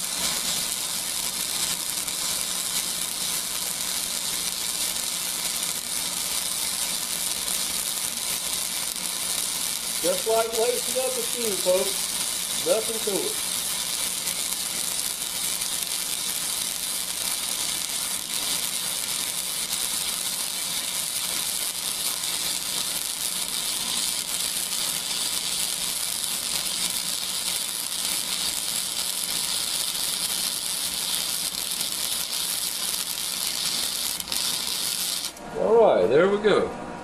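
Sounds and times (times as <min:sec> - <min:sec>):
welding arc sizzling: 0:00.0 - 0:35.6.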